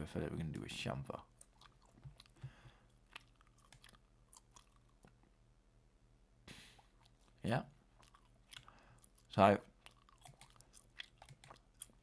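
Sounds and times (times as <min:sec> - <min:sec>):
wet chewing clicks: 0:00.4 - 0:05.2, 0:06.9 - 0:12.0.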